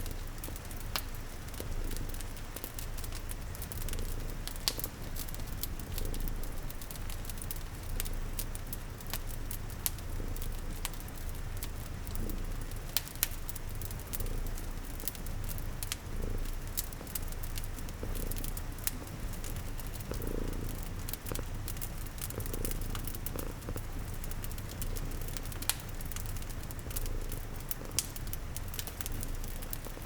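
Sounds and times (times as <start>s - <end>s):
cat purring: 0.0s - 30.0s
fireplace crackling: 0.0s - 30.0s.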